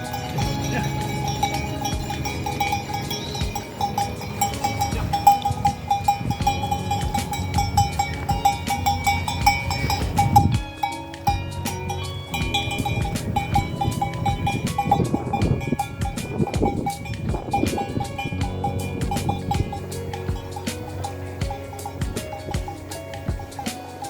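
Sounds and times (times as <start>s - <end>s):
sheep bells clanking: 0.0s - 24.0s.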